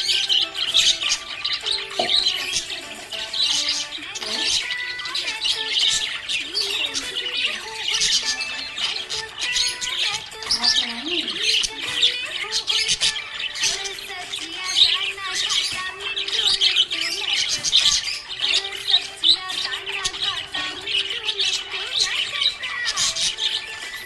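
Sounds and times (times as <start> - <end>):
budgerigars chirping and chattering: 0.0 - 24.0.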